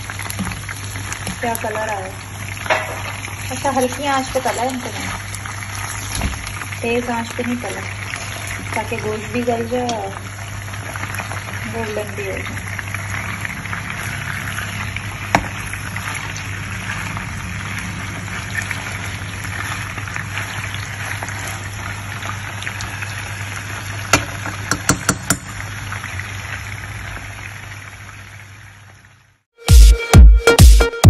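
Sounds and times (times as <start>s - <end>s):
chicken sizzling in oil: 0.0s - 29.5s.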